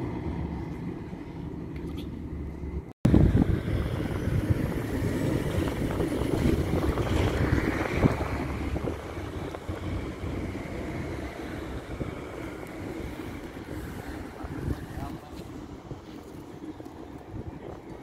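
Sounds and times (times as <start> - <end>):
tram rolling rumble: 0.0 - 18.0
wind buffeting microphone: 0.0 - 18.0.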